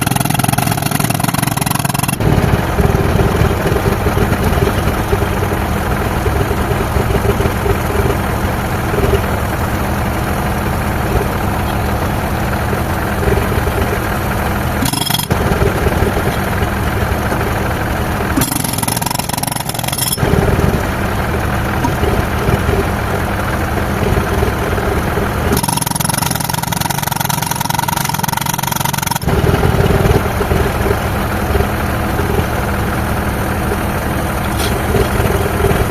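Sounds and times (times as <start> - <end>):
concrete breaker hammering: 0.0 - 33.9
air compressor engine running: 0.0 - 35.9.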